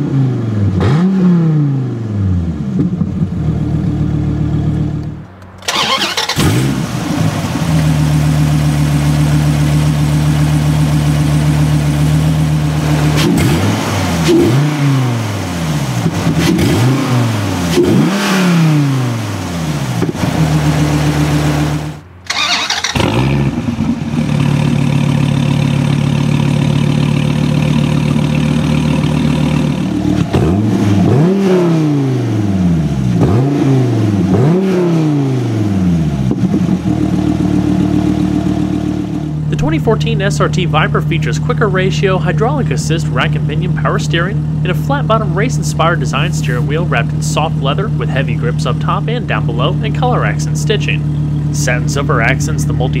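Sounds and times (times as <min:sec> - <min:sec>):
car engine revving: 0:00.0 - 0:53.0
car engine idling: 0:02.8 - 0:33.4, 0:35.6 - 0:53.0.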